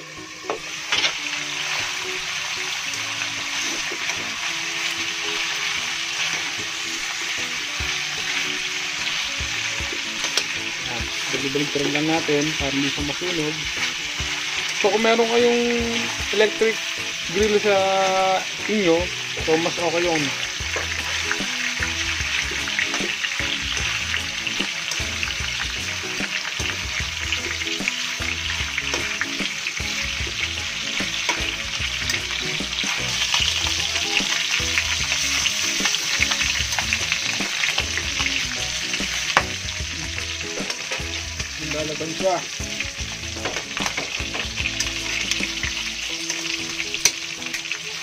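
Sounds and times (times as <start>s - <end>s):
meat sizzling in hot oil: 0.0s - 48.0s.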